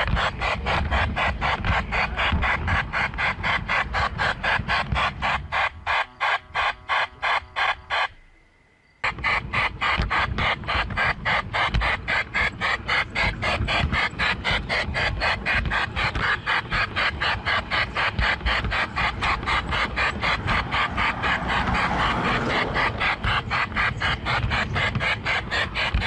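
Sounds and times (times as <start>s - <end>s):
model train clicking on track: 0.0s - 8.2s, 9.0s - 26.0s
low train rumble: 0.0s - 26.0s.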